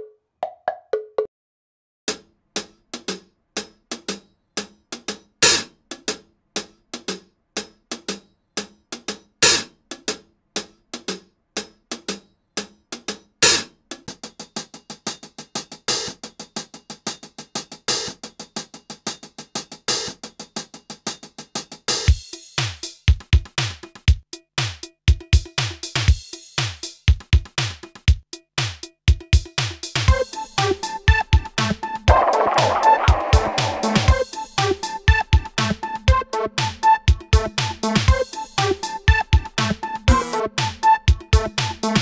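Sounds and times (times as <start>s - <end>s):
drum and hi-hat beat: 2.1s - 42.0s.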